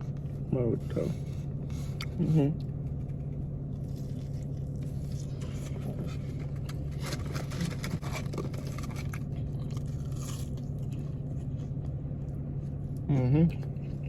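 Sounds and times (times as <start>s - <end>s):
steady low hum: 0.0s - 14.0s
person chewing crunchy food: 1.4s - 14.0s.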